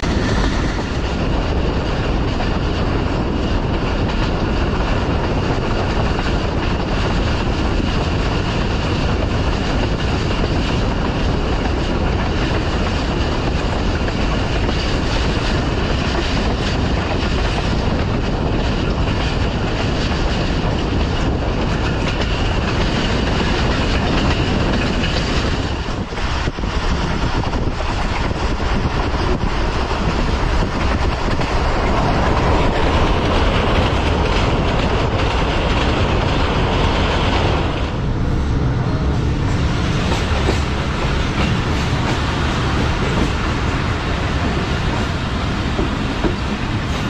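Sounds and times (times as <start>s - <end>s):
wheels clattering over rail joints: 0.0s - 38.3s
train rumbling on track: 0.0s - 47.0s.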